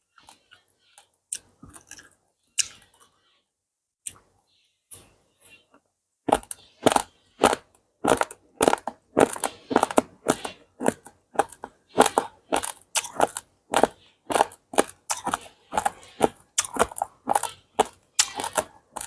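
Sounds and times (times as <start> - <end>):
person chewing crunchy grains: 0.2 - 3.2, 6.3 - 19.0.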